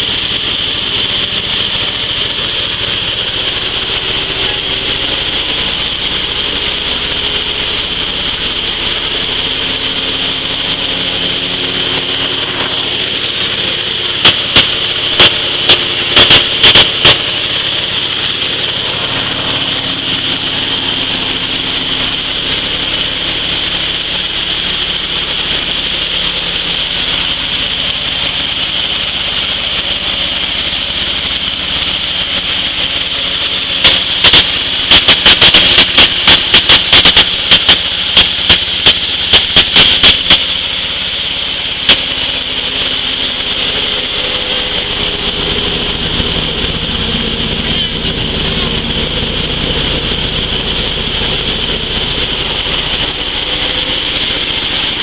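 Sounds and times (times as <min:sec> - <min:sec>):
machine humming and hissing: 0:00.0 - 0:55.0.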